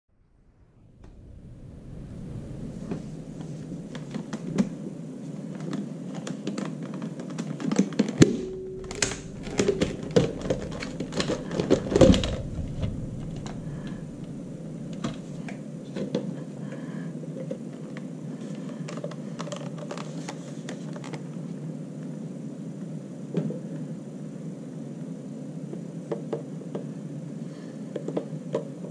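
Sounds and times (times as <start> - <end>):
low background noise: 0.1 - 28.9.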